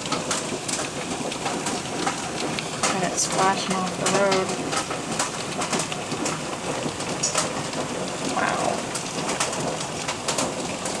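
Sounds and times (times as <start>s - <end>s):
hailstones striking: 0.0s - 11.0s
heavy rain: 0.0s - 11.0s.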